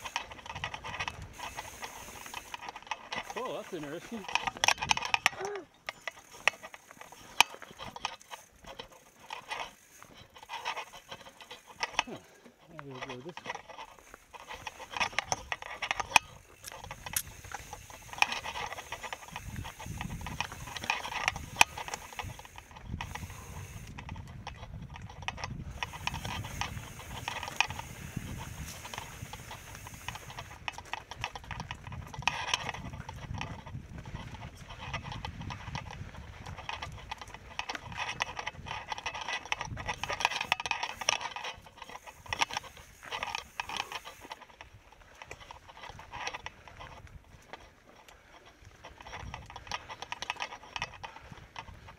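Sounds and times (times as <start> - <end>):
bike rattling: 0.0 - 51.9.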